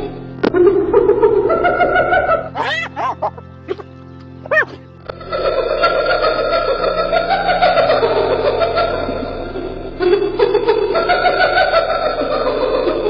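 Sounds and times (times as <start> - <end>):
background music: 0.0 - 13.0
hyena giggling: 1.4 - 13.0.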